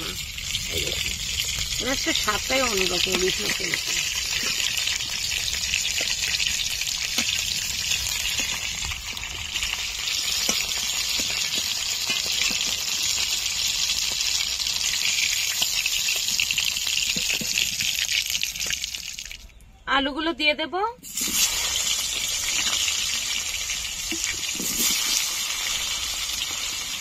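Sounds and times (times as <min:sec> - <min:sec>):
hot oil sizzling: 0:00.0 - 0:19.5, 0:21.0 - 0:27.0.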